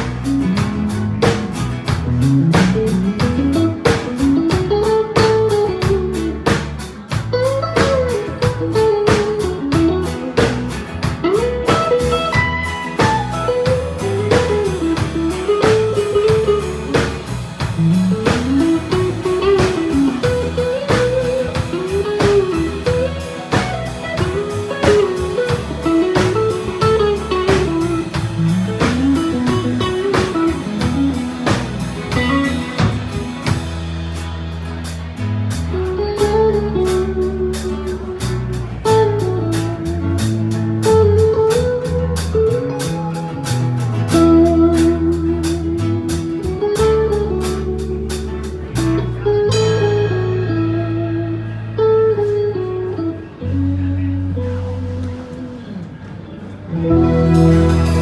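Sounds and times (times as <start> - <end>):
drums steady beat: 0.0 - 52.4, 56.8 - 58.0
bass line: 0.0 - 58.0
electric guitar melody: 0.0 - 58.0.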